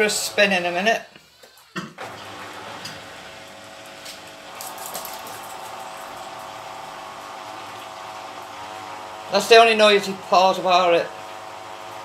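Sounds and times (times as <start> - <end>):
washing machine drain pump humming: 2.0 - 12.0.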